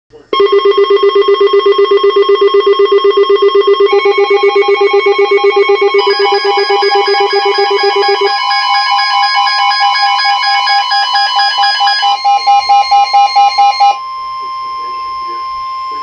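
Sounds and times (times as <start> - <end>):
electronic alert tone trilling: 0.4 - 14.0.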